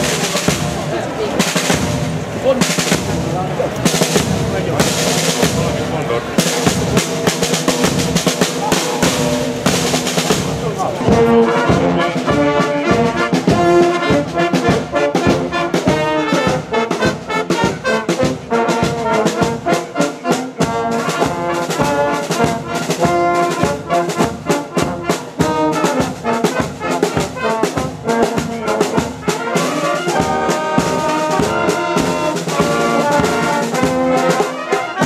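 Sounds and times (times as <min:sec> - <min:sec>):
marching brass band playing: 0:00.0 - 0:35.0
trombones and trumpets: 0:00.0 - 0:35.0.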